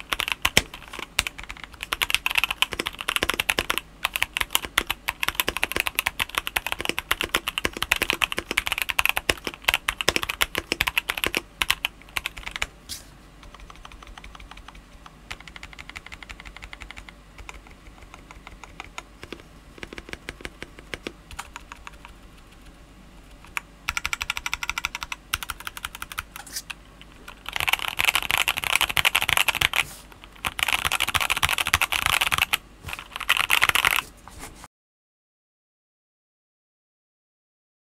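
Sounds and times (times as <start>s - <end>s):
mechanical keyboard typing: 0.0s - 12.7s, 13.4s - 34.0s.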